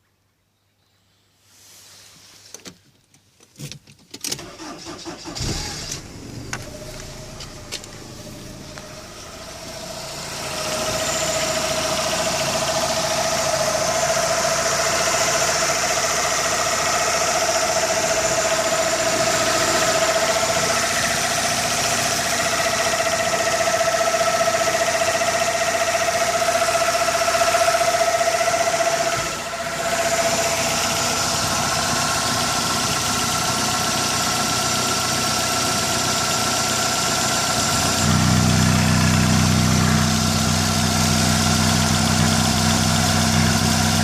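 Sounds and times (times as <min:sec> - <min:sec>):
car engine idling: 0:04.4 - 0:44.0
engine tapping: 0:04.4 - 0:44.0.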